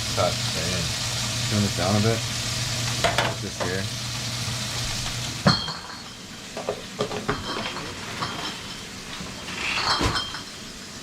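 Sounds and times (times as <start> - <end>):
bacon sizzling in a frying pan: 0.0 - 11.0.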